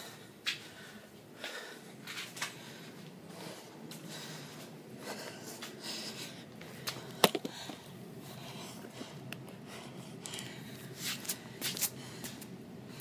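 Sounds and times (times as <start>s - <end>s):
man breathing hard through nose: 0.0s - 13.0s.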